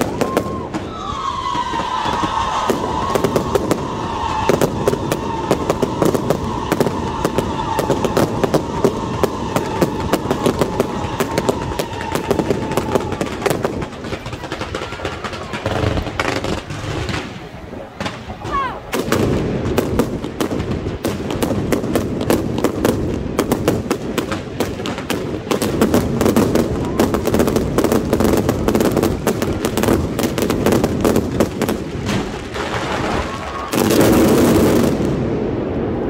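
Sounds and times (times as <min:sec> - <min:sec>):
fireworks bangs and crackles: 0:00.0 - 0:36.0
loud rush of noise: 0:00.0 - 0:36.0.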